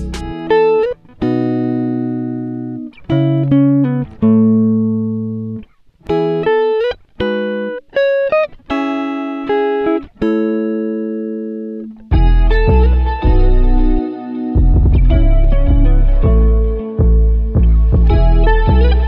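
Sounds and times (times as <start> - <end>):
plucked instrumental music: 0.0 - 19.0.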